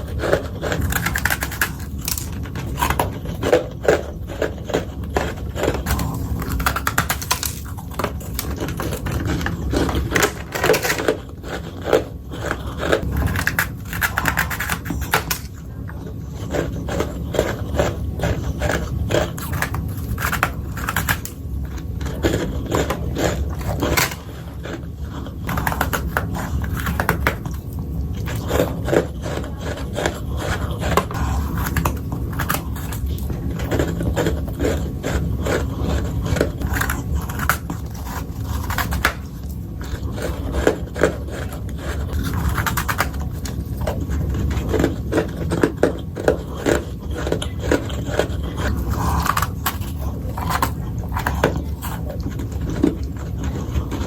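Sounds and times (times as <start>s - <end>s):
chewing frost crunching: 0.0s - 54.0s.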